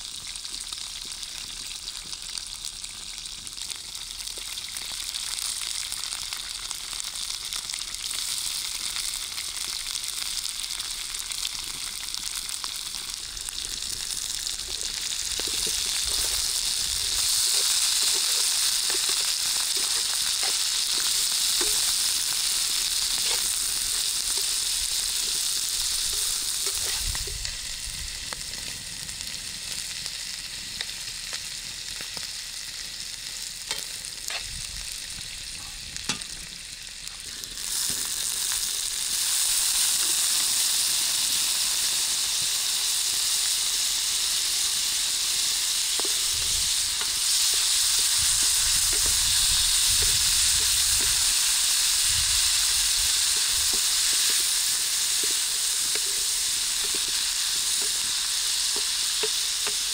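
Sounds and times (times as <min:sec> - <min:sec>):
meat sizzling in a pan: 0:00.0 - 0:59.9.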